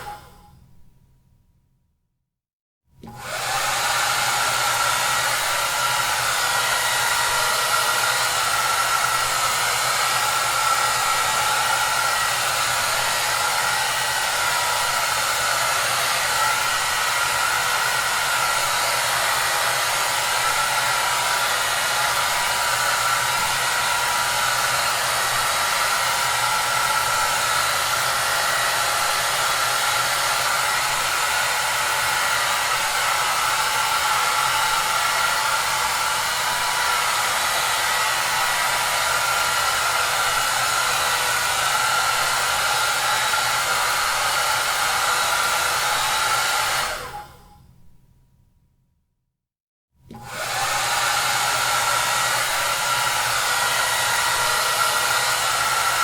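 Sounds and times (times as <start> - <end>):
hair dryer blowing air: 0.0 - 0.4, 3.0 - 47.6, 50.1 - 56.0.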